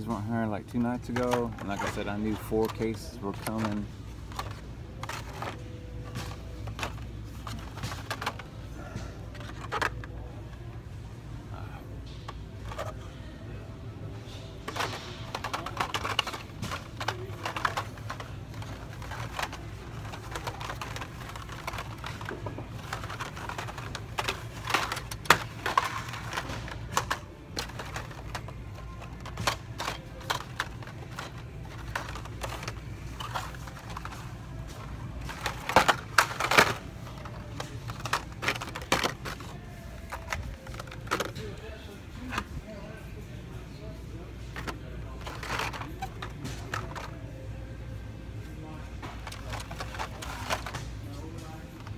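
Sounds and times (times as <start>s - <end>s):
plastic packs clicking together: 0.0s - 10.3s, 12.2s - 13.1s, 14.3s - 42.5s, 44.5s - 47.7s, 48.9s - 51.9s.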